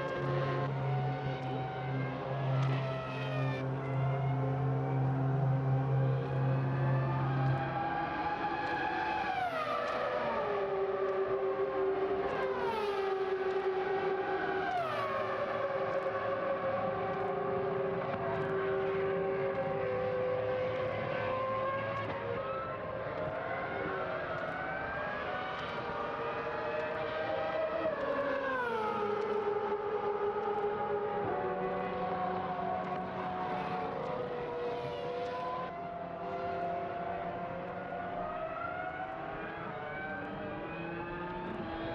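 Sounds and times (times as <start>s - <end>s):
racing engines at high revs: 0.0s - 41.9s.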